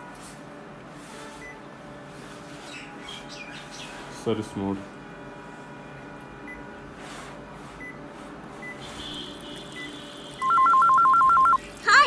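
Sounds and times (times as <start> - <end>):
low steady machine hum: 0.0 - 12.0.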